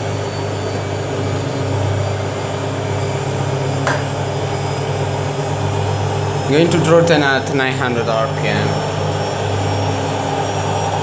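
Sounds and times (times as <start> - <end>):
washing machine drum spinning: 0.0 - 11.0.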